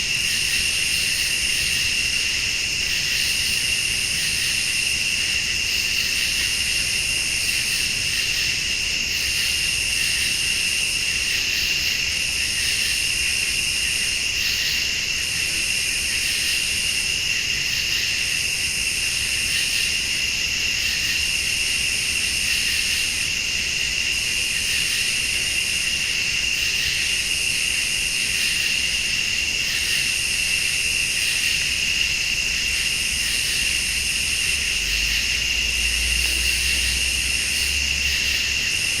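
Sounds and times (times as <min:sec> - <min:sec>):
crickets trilling: 0:00.0 - 0:39.0
high-pitched pulsing insect chorus: 0:00.0 - 0:39.0.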